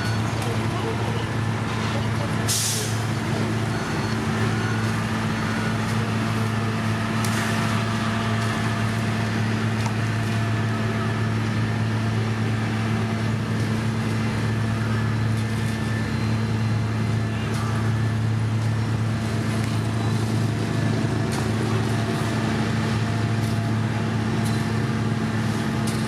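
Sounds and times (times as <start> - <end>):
diesel engine humming steadily: 0.0 - 26.0.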